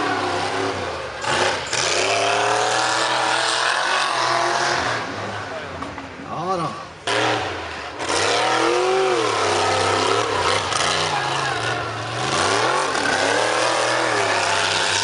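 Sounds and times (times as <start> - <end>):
buggy engine revving hard: 0.0 - 5.6, 7.0 - 15.0.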